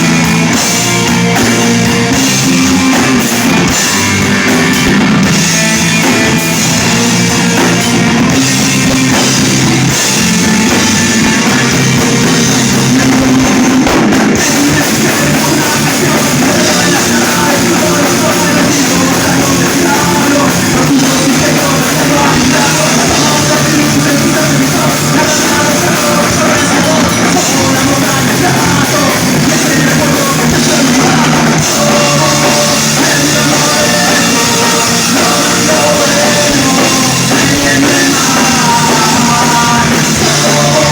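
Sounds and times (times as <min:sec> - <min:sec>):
drum kit: 0:00.0 - 0:40.9
live rock band playing: 0:00.0 - 0:40.9
person singing: 0:00.0 - 0:40.9.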